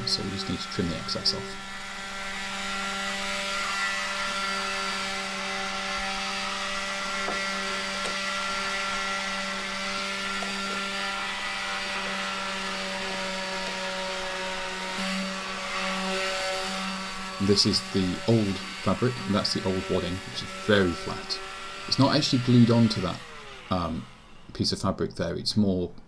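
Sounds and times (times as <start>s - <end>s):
small motor humming: 0.0s - 24.7s.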